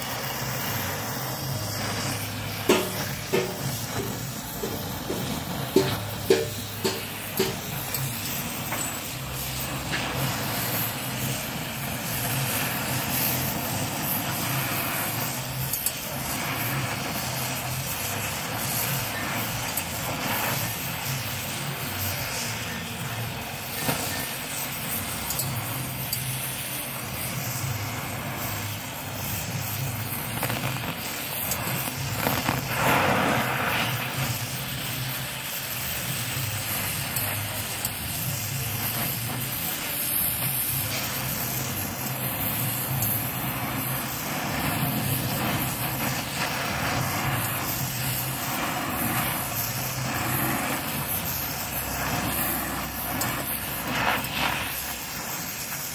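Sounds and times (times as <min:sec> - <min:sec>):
gas torch flame hissing: 0:00.0 - 0:55.9.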